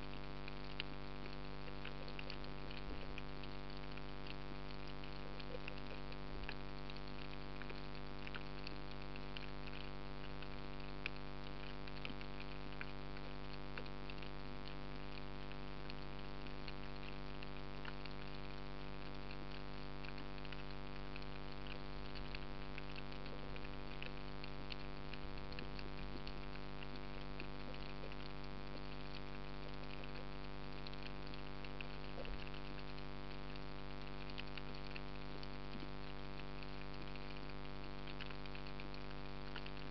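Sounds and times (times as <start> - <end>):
electrical hum: 0.0 - 39.9
fine crackling clicks: 0.0 - 39.9.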